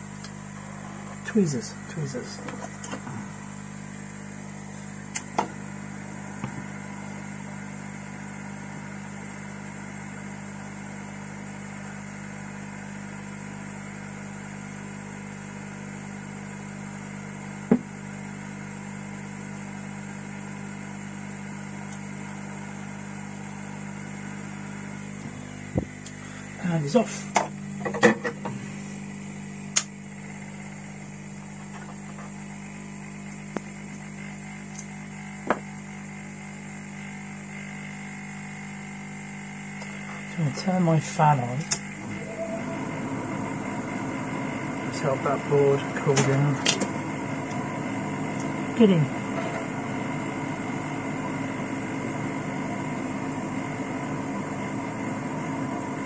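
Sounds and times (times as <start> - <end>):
electric fan running: 0.0 - 56.0
hot air station hum: 0.0 - 56.0.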